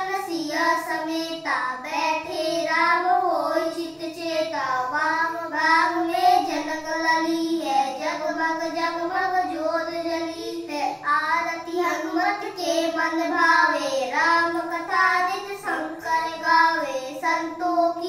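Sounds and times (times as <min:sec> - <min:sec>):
children singing devotional song: 0:00.0 - 0:18.0.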